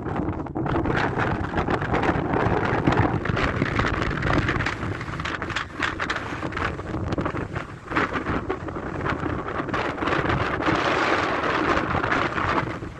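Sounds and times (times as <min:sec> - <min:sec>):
wind buffeting a microphone: 0:00.0 - 0:12.9.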